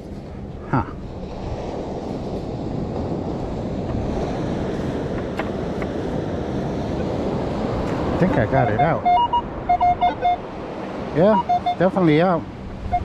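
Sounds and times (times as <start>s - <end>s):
wind on microphone: 0.0s - 11.8s
surf washing in: 0.0s - 13.0s.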